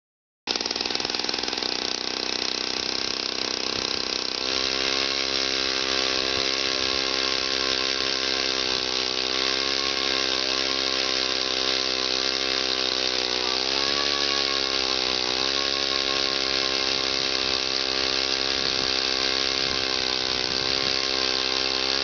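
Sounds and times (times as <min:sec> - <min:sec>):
ice auger engine running: 0:00.5 - 0:22.0.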